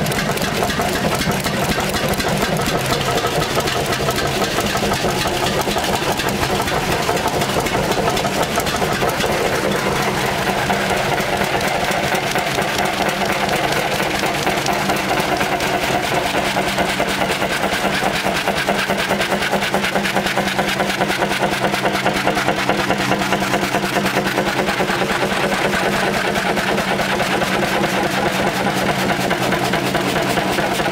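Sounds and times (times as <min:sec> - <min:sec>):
old engines running: 0:00.0 - 0:30.9.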